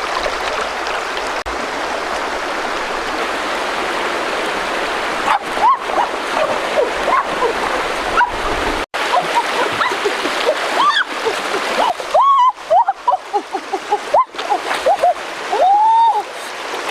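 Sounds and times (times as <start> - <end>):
running water rushing: 0.0 - 16.9.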